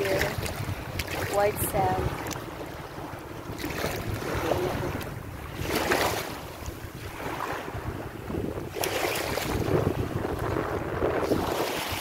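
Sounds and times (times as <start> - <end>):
shallow water washing at shore: 0.0 - 12.0
wind buffeting microphone: 0.0 - 12.0.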